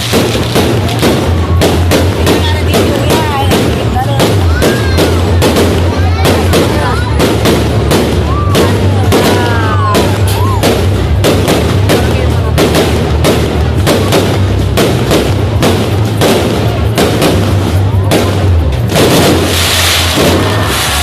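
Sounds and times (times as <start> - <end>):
fireworks banging and cracking: 0.0 - 21.0.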